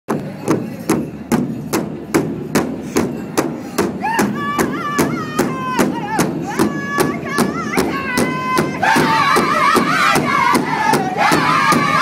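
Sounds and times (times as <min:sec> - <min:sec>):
big drum steady beat: 0:00.1 - 0:12.0.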